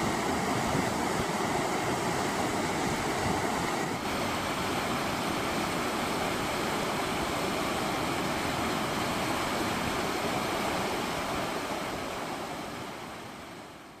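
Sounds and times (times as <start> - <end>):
floodwater rushing down channel: 0.0 - 14.0.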